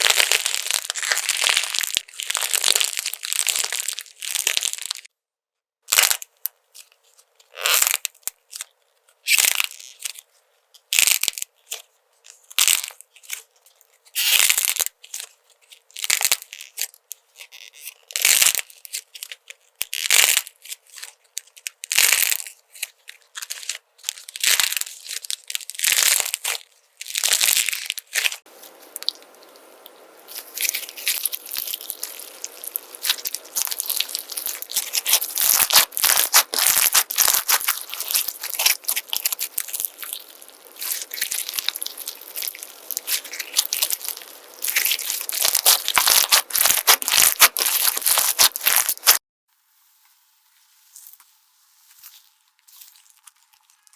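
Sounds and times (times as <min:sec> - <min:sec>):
slime squished and crackling: 0:00.0 - 0:05.1, 0:05.9 - 0:10.2, 0:11.0 - 0:49.2, 0:52.0 - 0:53.9.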